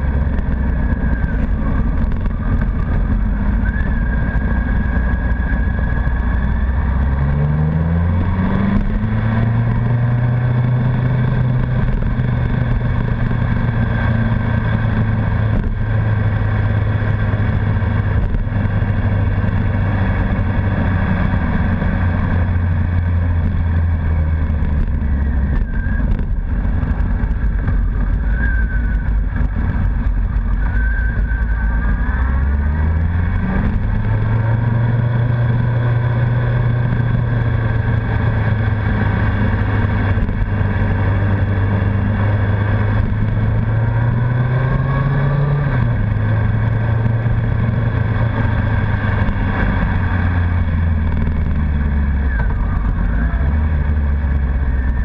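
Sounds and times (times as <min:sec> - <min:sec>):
motorcycle engine: 0:00.0 - 0:55.0
wind and road noise: 0:00.0 - 0:55.0.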